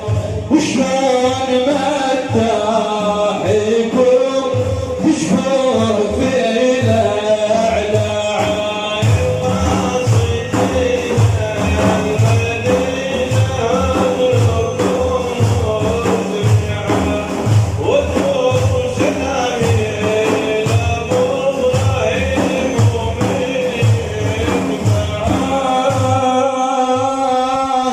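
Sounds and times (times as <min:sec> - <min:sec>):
frame drums beating: 0:00.0 - 0:27.9
person singing long melodic lines: 0:00.0 - 0:27.9.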